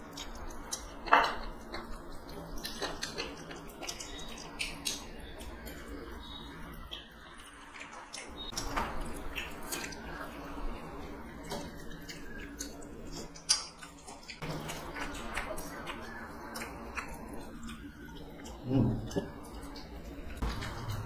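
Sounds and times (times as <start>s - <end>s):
mouths chewing: 0.0s - 21.0s.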